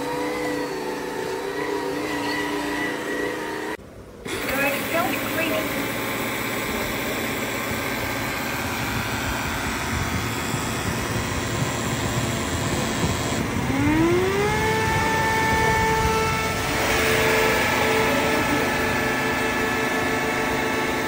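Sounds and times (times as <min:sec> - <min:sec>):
floor cleaner motor running: 0:00.0 - 0:21.0
rising whine: 0:00.0 - 0:21.0.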